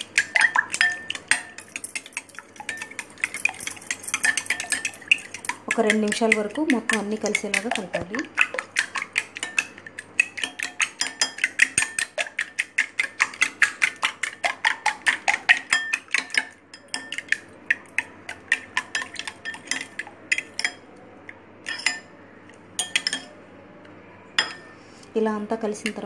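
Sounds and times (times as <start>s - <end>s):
spoon clinking in glass bowl: 0.1s - 20.8s, 21.6s - 22.1s, 22.8s - 23.4s, 24.4s - 24.7s.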